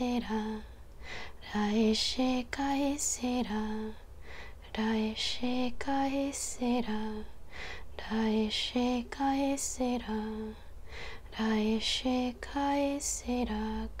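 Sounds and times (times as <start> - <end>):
woman singing wordless syllables: 0.0 - 0.7, 1.4 - 4.0, 4.6 - 10.6, 11.3 - 14.0.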